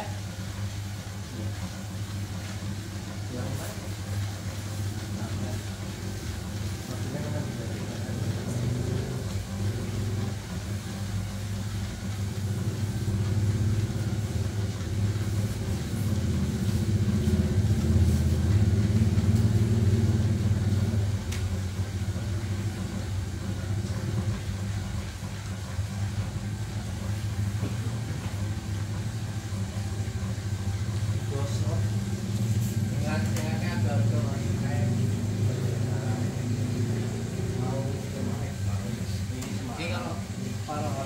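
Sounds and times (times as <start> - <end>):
popcorn machine low hum: 0.0 - 41.0.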